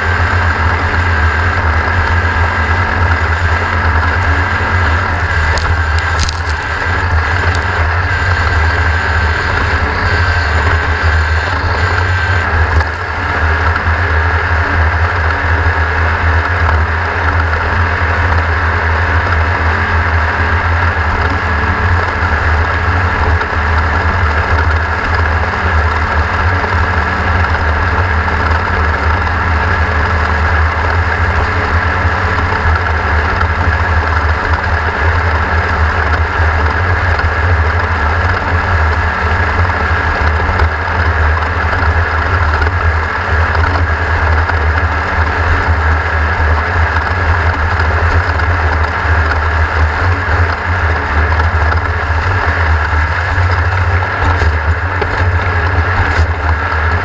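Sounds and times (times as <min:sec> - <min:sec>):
racing engine running loudly: 0:00.0 - 0:57.0.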